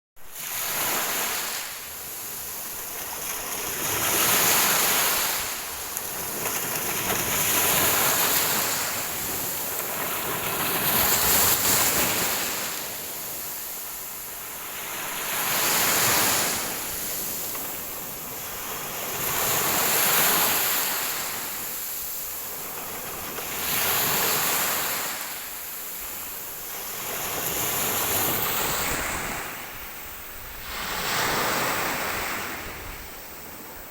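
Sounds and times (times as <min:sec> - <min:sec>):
ocean waves breaking on shore: 0:00.2 - 0:33.9.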